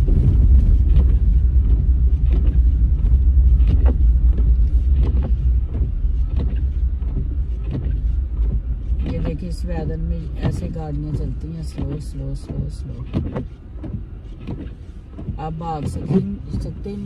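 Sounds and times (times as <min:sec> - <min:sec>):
car interior engine and road rumble: 0:00.0 - 0:17.0.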